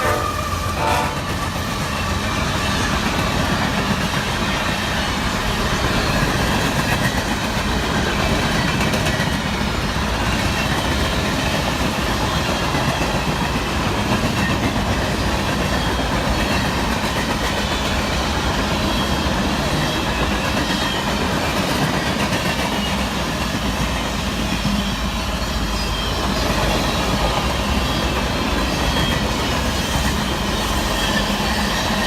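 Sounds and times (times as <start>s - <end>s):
freight train wheels on rails: 0.0s - 32.0s.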